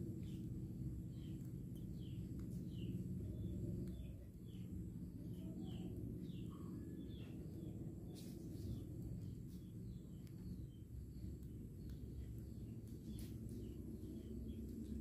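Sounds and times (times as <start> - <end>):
small bird chirping: 0.0 - 15.0
steady low hum: 0.0 - 15.0.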